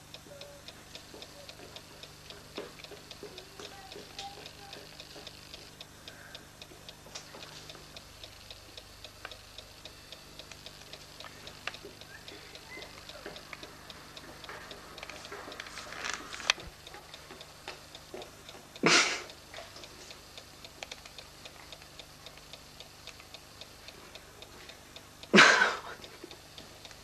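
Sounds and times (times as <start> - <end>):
clock ticking: 0.0 - 27.0.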